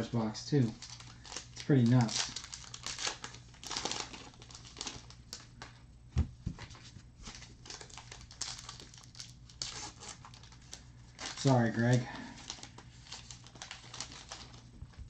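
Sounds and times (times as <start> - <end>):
foil wrapper crinkling and tearing: 0.5 - 5.7, 7.2 - 15.0
cards rustling: 0.6 - 5.7, 6.5 - 14.7.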